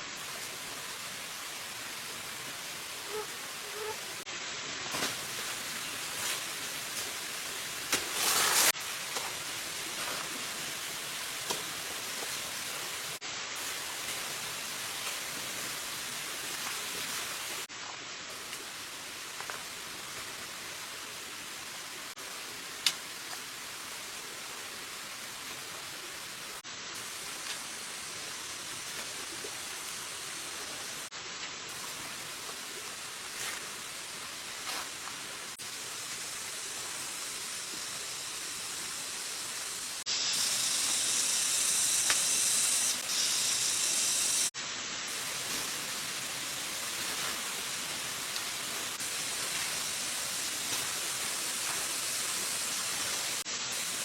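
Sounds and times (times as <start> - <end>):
water hissing: 0.0 - 17.7, 26.6 - 54.0.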